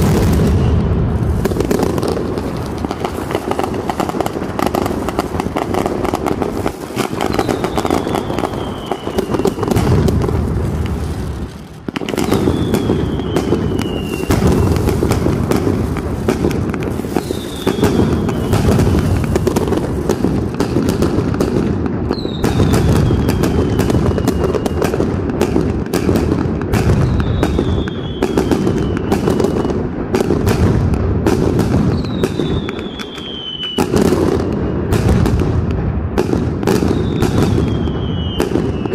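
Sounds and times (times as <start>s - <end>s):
firecrackers banging rapidly: 0.0s - 38.9s.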